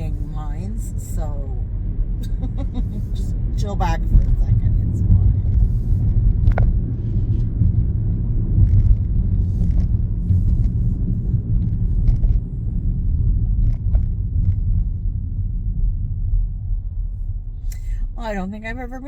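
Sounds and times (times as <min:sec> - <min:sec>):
car interior engine and road noise: 0:00.0 - 0:19.0.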